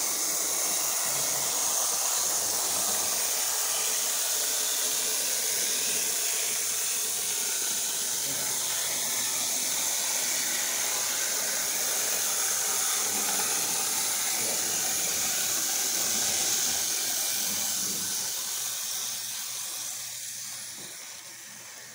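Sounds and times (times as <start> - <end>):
high-pitched hiss: 0.0 - 21.9.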